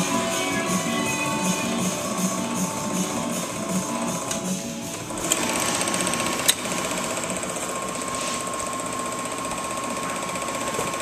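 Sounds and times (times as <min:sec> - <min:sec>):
film projector ticking whir: 0:00.0 - 0:11.0.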